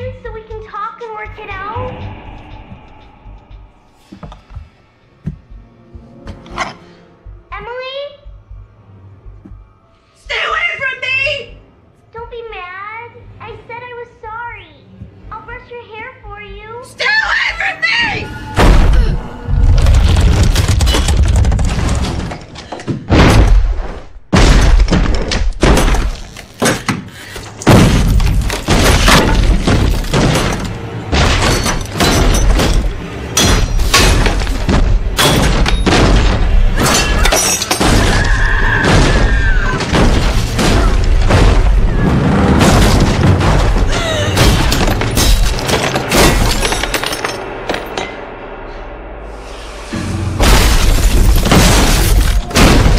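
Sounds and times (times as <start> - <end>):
tense film score: 0.0 - 52.9.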